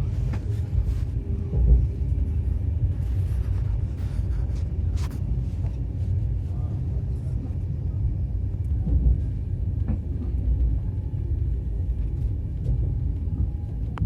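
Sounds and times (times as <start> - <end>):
railway coach rumble: 0.0 - 14.0.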